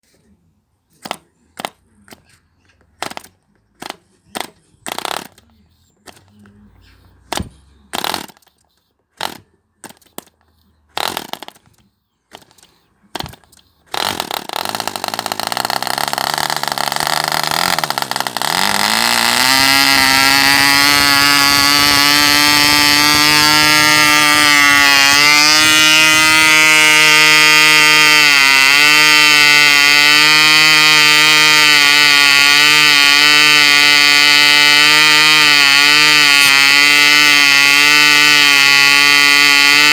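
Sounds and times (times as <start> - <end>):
model engine firing and running: 1.0 - 2.2, 3.0 - 8.6, 9.2 - 39.9.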